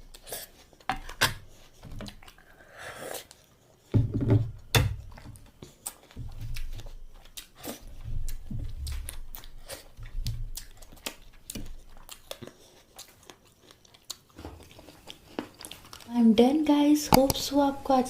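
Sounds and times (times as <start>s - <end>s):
food chewing and crunching: 0.0s - 18.0s.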